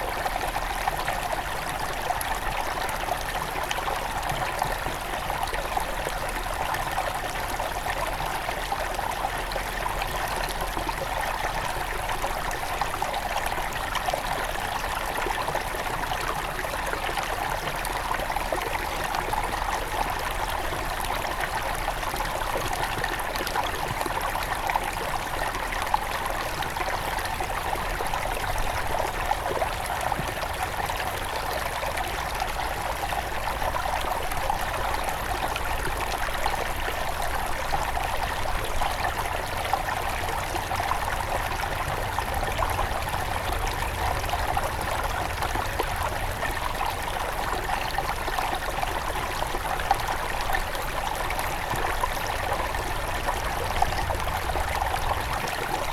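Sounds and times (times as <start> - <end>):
stream flowing over stones: 0.0 - 55.9.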